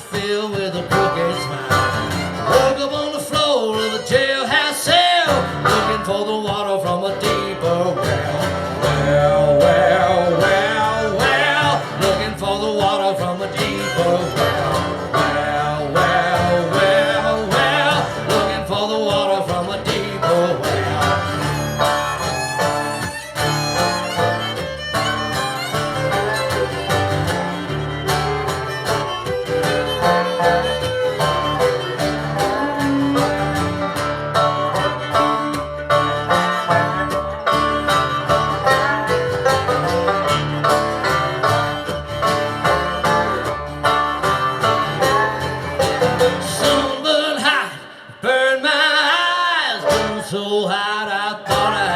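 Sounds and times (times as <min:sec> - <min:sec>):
bluegrass band playing instrumental: 0:00.0 - 0:47.6, 0:49.7 - 0:51.9.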